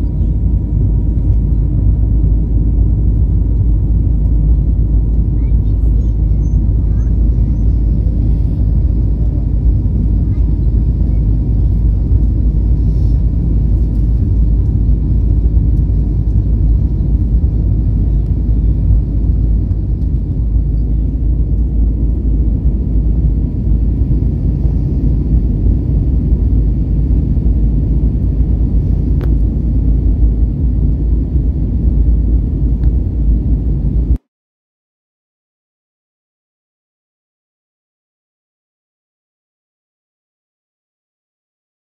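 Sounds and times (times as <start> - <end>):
airliner cabin rumble: 0.0 - 34.2.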